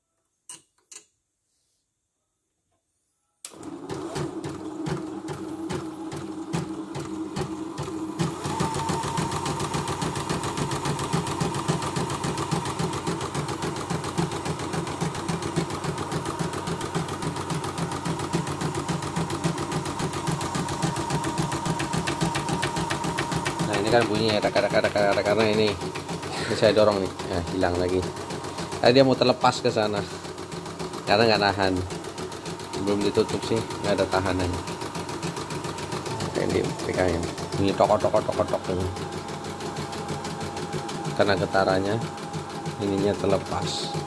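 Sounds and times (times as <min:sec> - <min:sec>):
embroidery machine stitching: 0:03.5 - 0:44.0.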